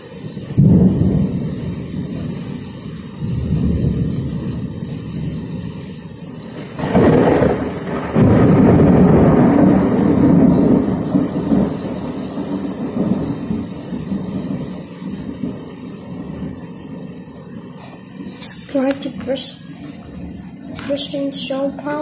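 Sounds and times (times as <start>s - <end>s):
heavy rain: 0.0s - 22.0s
thunder cracking and rumbling: 0.0s - 22.0s.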